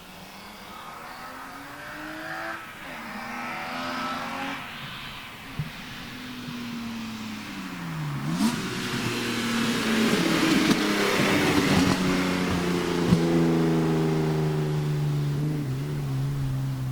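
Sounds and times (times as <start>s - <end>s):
car engine under load: 0.0s - 16.9s.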